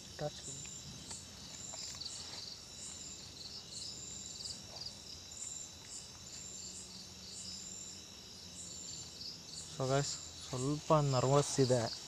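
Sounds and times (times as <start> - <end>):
insects trilling: 0.0 - 12.0
short cricket chirps: 0.0 - 12.0.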